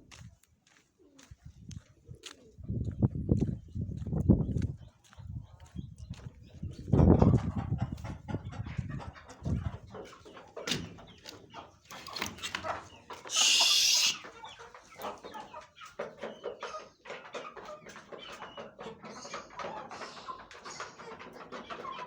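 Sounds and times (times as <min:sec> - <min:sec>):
chickens clucking: 0:03.4 - 0:22.0.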